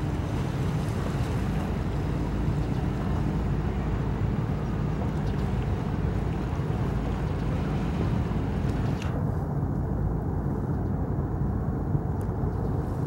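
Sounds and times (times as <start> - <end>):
ship engine rumbling: 0.0 - 13.0.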